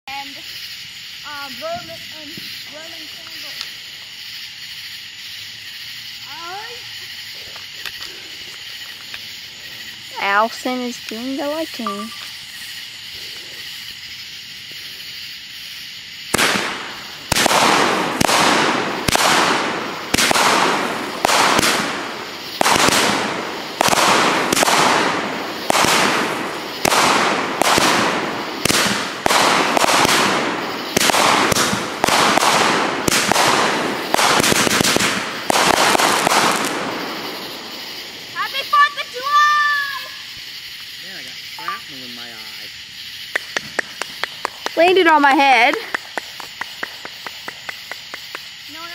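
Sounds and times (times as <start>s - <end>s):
fireworks bangs: 0.1s - 48.9s
steady hiss: 0.1s - 48.9s.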